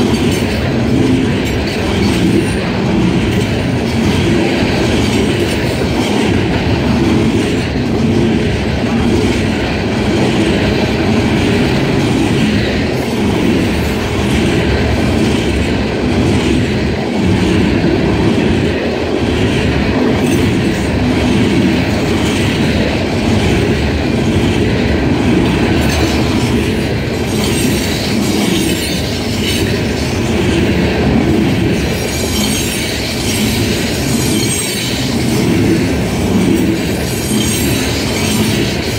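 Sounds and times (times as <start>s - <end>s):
wheels clickety-clack on rail joints: 0.0s - 38.9s.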